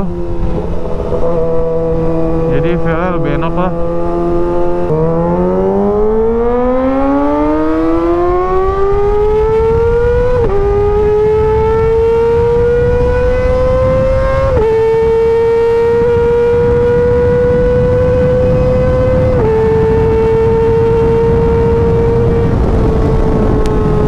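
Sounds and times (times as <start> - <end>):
motorcycle engine revving high: 0.0 - 24.0
wind rush: 0.0 - 24.0.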